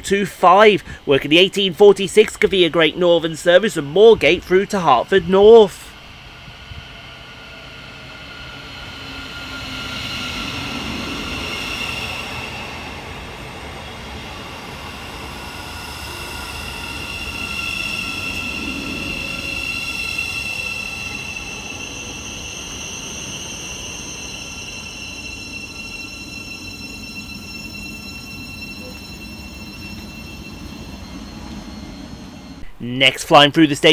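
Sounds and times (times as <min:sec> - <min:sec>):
train wheels rumbling: 0:00.0 - 0:33.9
train whine and squeal: 0:00.0 - 0:33.9.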